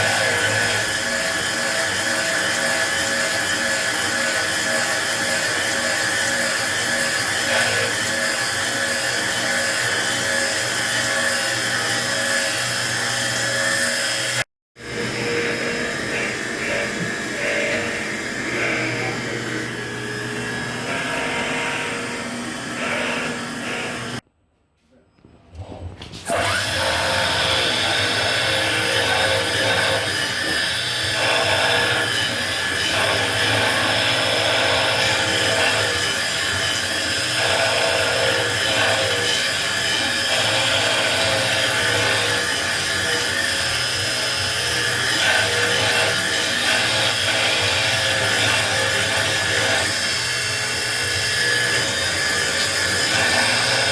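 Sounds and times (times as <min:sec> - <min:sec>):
engraving machine spindle humming: 0:00.0 - 0:24.2, 0:26.3 - 0:53.9.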